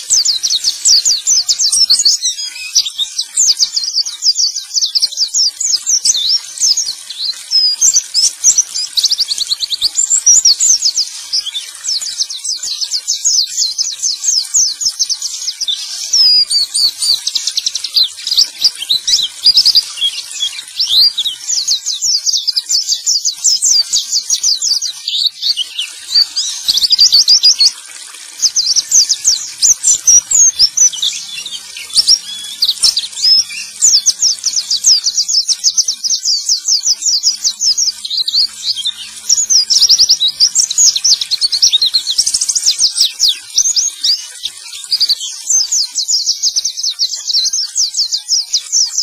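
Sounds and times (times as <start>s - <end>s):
bird twittering song: 0.0s - 49.0s.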